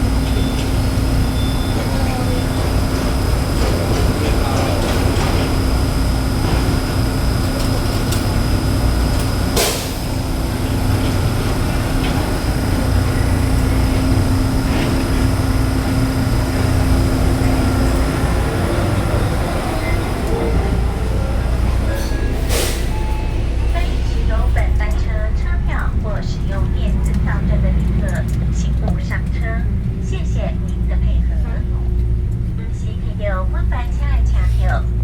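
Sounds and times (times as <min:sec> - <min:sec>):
electric train hum: 0:00.0 - 0:35.0
train running gear rumble: 0:00.0 - 0:35.0.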